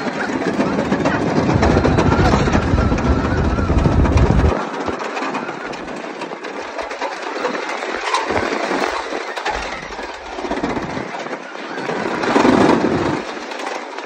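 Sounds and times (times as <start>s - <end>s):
roller coaster rattling on wooden track: 0.0s - 14.0s.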